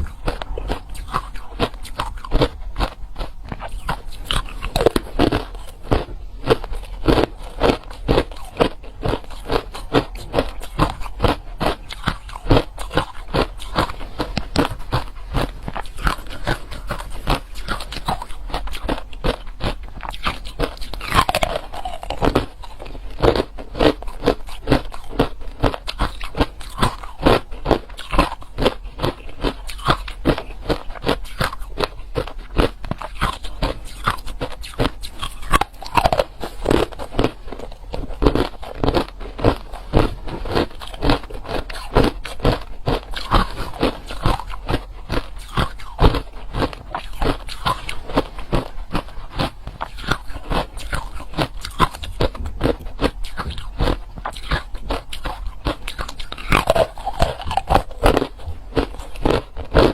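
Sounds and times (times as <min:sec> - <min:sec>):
person crunching ice: 0:00.0 - 0:59.9.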